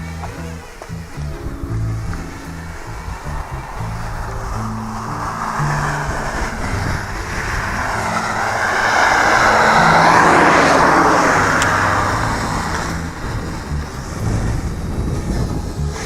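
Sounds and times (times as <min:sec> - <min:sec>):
vehicle passing by: 0:01.0 - 0:16.0.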